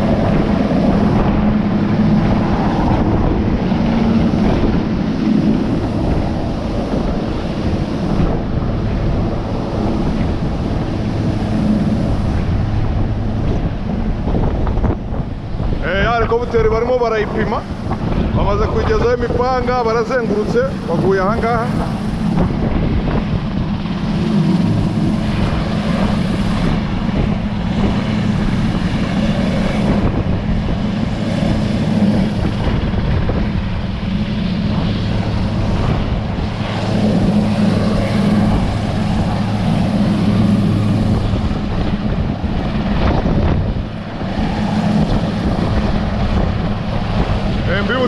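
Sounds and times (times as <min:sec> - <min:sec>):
helicopter in flight: 0:00.0 - 0:48.0.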